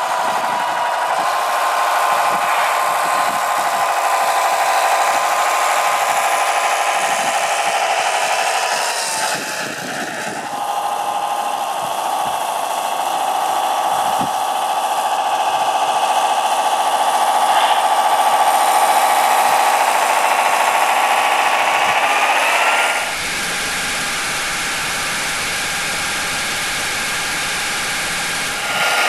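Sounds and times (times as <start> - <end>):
electric motor and gearbox whining: 0.0 - 29.0.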